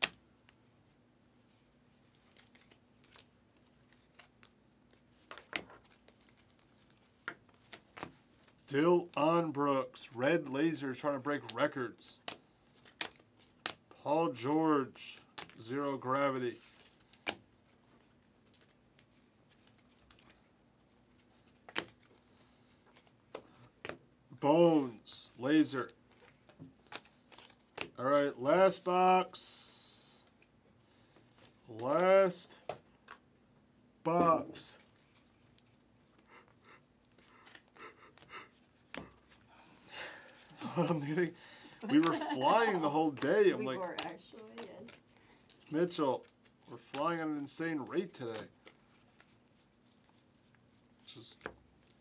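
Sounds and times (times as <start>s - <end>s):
trading cards rustling and clicking: 1.9s - 9.3s, 10.4s - 24.0s, 25.4s - 28.0s, 30.0s - 33.2s, 34.1s - 39.5s, 40.2s - 52.0s.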